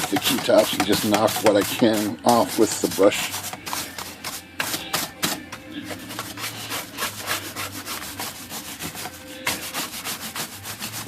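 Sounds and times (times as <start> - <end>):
brush scrubbing keys: 0.0 - 5.2, 5.8 - 11.0.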